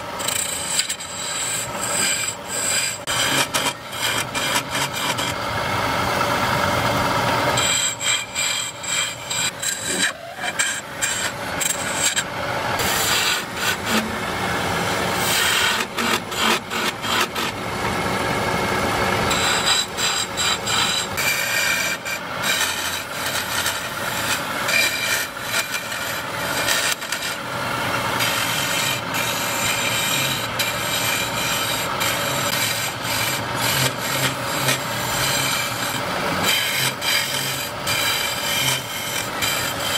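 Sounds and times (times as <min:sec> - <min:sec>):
lathe chisel scraping spinning wood: 0:00.0 - 0:39.9.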